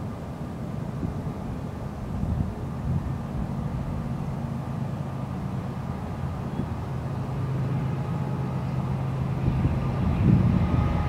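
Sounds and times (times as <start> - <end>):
diesel locomotive engine hum: 0.0 - 11.0.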